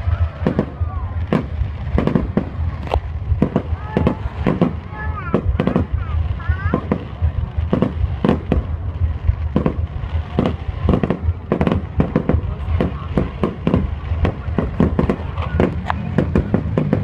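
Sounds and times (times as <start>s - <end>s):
firework shells bursting: 0.0s - 17.0s
low rumble: 0.0s - 17.0s.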